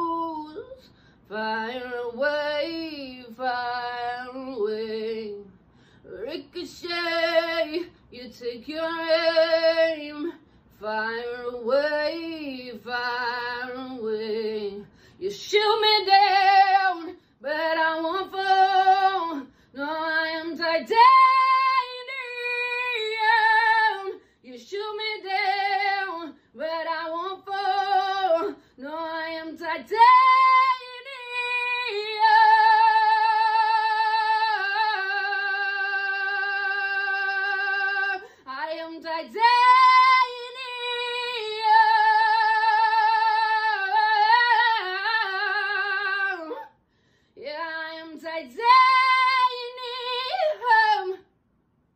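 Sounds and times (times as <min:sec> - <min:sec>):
woman singing unaccompanied: 0:00.0 - 0:05.5, 0:06.1 - 0:46.7, 0:47.4 - 0:51.2.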